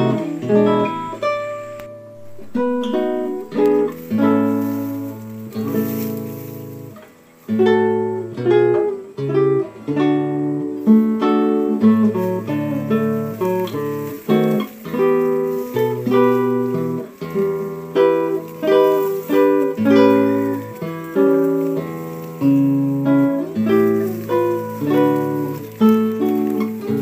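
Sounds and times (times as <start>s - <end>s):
acoustic guitar plucking: 0.0s - 27.0s.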